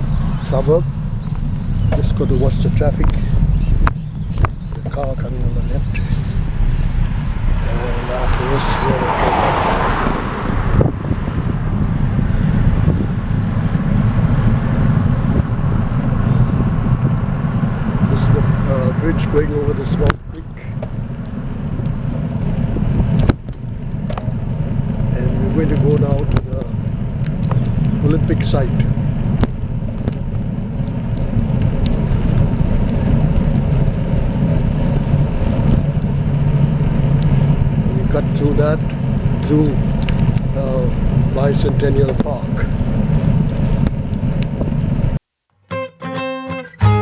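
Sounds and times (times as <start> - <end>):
wind buffeting microphone: 0.0 - 45.2
road traffic: 0.0 - 47.0.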